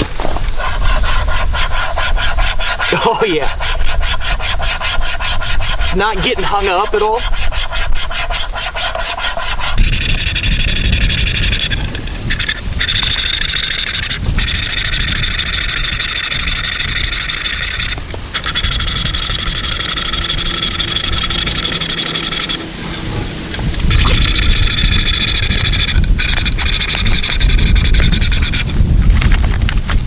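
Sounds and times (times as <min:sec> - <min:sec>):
saw rasping through log: 0:00.5 - 0:29.2.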